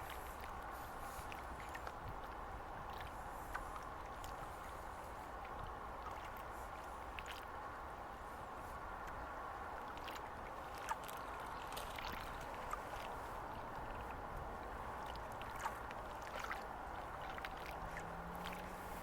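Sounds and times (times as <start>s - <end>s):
rain falling in light ticks: 0.0s - 7.8s, 8.6s - 19.0s
small waves lapping: 0.0s - 19.0s.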